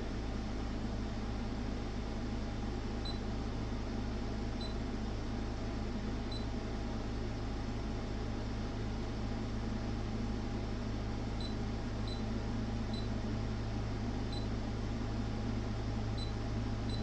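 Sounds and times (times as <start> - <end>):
fan noise: 0.0 - 17.0
mains hum: 0.0 - 17.0.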